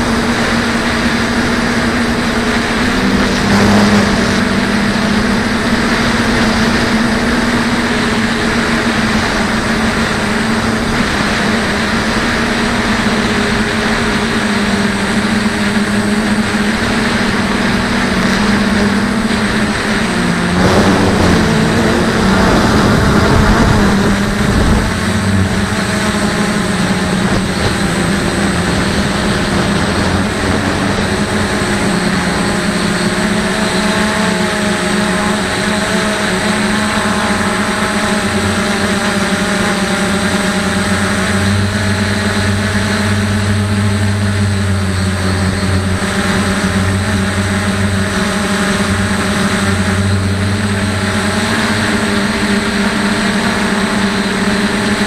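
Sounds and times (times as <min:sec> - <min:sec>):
drone motors and propellers humming: 0:00.0 - 0:55.0.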